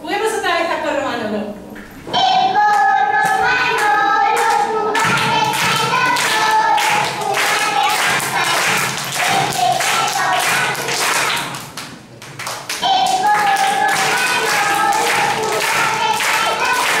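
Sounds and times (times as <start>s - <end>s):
voices singing children's song: 2.1s - 11.7s, 12.7s - 17.0s
rhythmic hand clapping: 2.6s - 17.0s.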